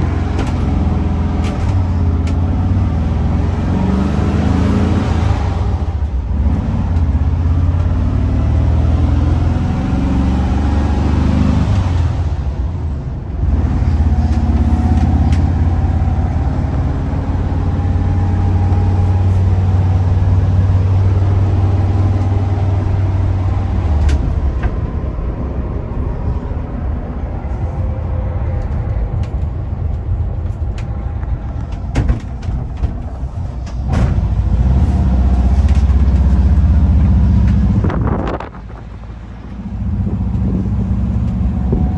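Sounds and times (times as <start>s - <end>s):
van engine running: 0.0s - 3.9s, 12.1s - 41.9s
road noise: 0.0s - 41.9s.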